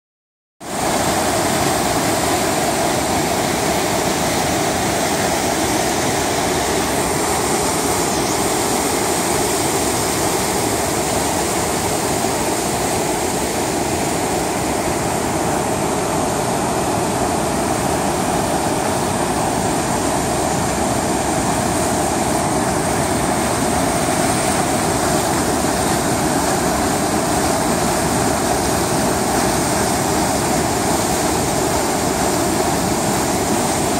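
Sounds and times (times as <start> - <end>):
river rushing through rapids: 0.6 - 33.9.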